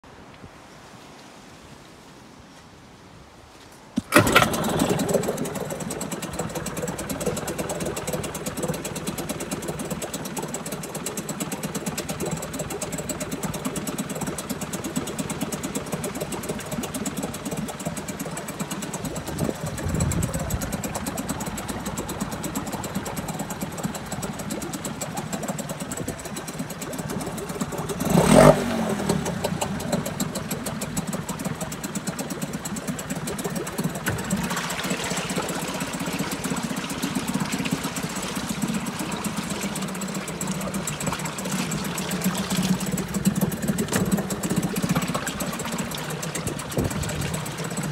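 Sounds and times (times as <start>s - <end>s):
outboard motor running: 4.0s - 47.9s.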